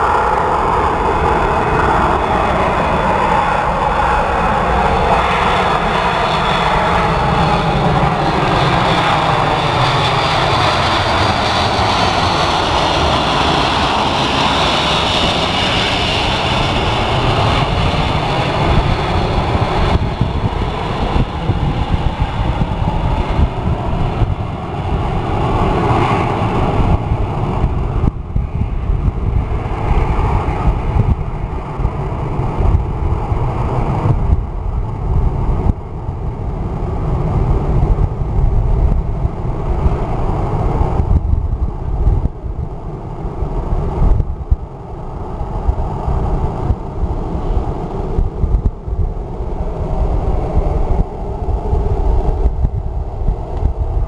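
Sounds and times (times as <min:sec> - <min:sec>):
jet engines passing overhead: 0:00.0 - 0:54.0.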